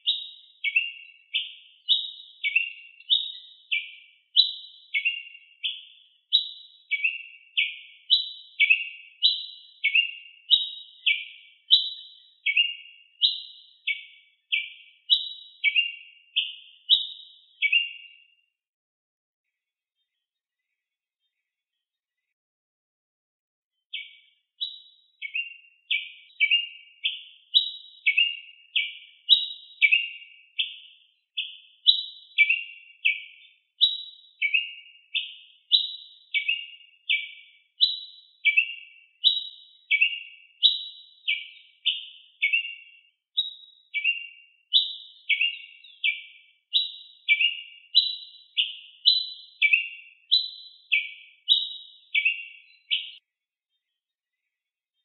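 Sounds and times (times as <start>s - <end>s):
bird high chirping song: 0.0s - 18.5s, 23.8s - 55.0s.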